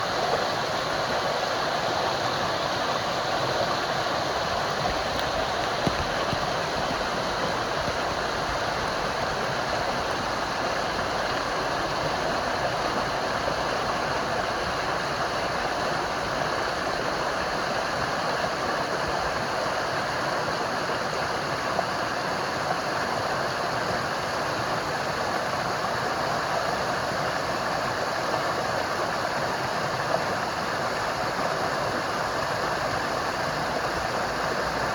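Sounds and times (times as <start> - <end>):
running water: 0.0 - 34.9.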